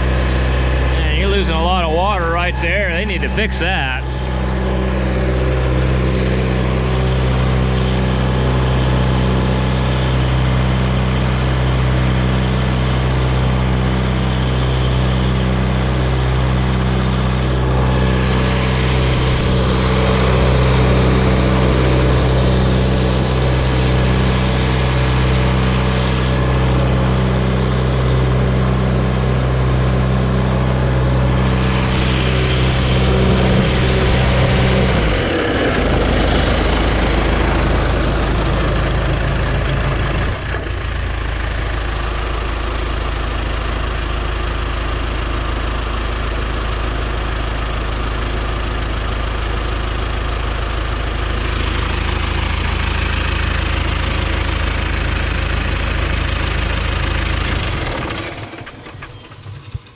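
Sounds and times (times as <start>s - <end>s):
pump engine running steadily: 0.0s - 59.9s.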